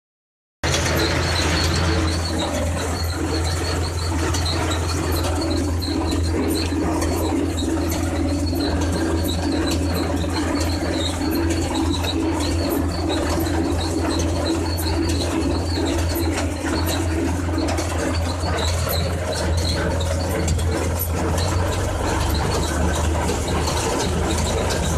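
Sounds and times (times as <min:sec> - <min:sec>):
short high squeak: 0:00.6 - 0:24.9
tractor engine running under load: 0:00.6 - 0:24.9.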